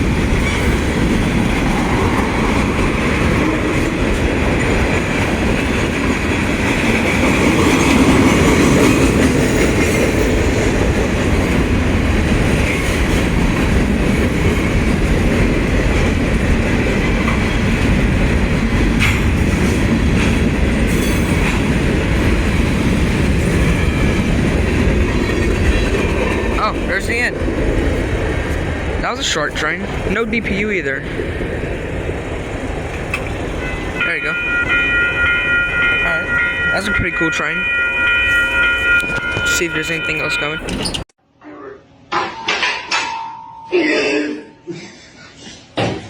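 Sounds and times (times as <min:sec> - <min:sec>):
freight train wheels rumbling on rails: 0:00.0 - 0:41.1.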